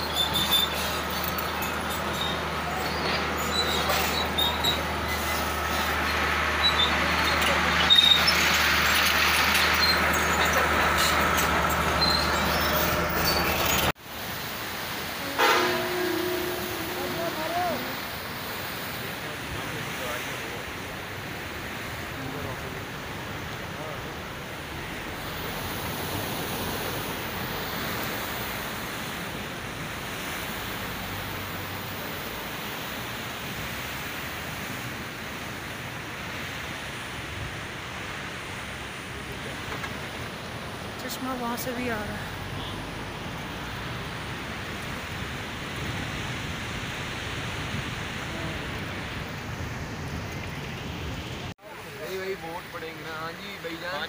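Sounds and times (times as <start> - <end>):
rocky river rushing: 0.0 - 54.0.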